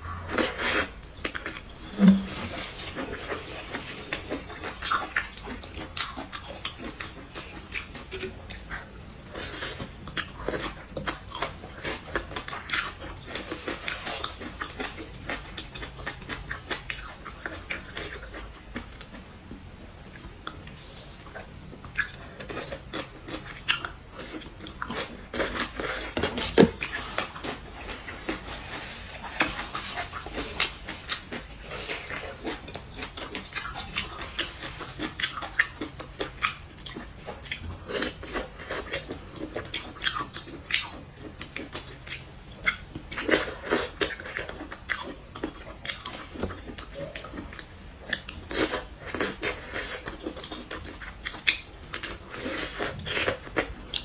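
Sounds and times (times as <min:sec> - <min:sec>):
wet chewing and smacking: 0:00.3 - 0:54.0.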